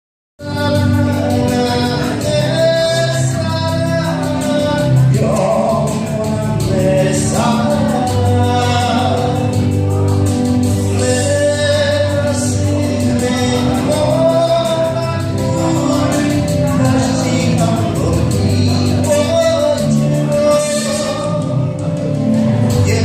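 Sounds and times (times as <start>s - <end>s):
song with voices and beat: 0.4s - 23.0s.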